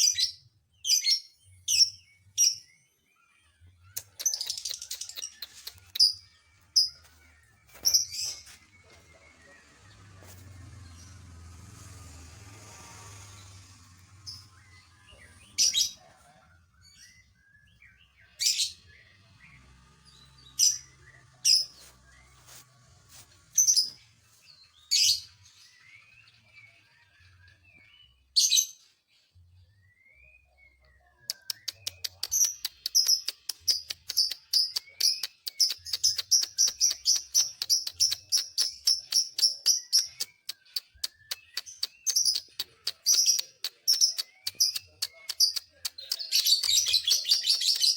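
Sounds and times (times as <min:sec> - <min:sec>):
lovebird chirping: 0:00.0 - 0:11.2, 0:13.4 - 0:28.8, 0:29.8 - 0:47.9.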